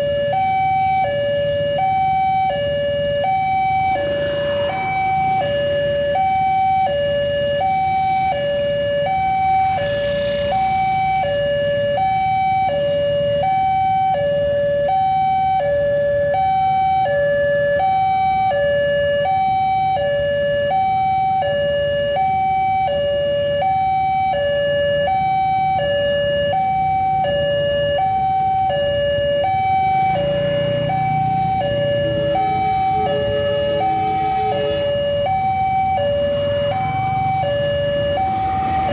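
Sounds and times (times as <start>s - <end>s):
idling motorcycle and car engines: 0.0s - 38.9s
level crossing two-tone alarm: 0.0s - 38.9s.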